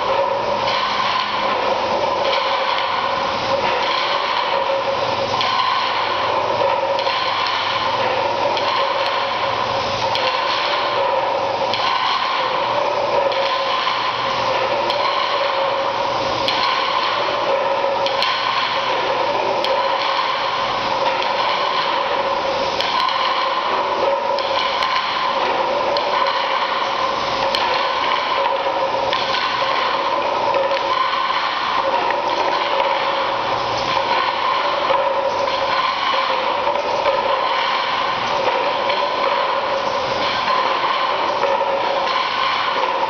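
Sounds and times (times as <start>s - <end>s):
mechanical whirring and rattling: 0.0s - 43.0s.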